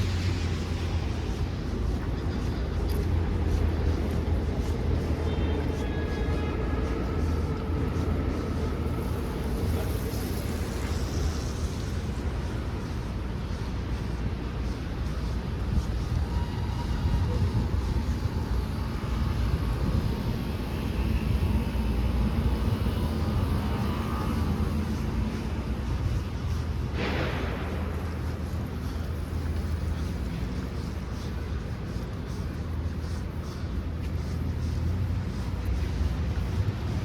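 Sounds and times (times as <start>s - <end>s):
deep city rumble: 0.0s - 37.0s
footsteps on snow: 0.0s - 37.0s.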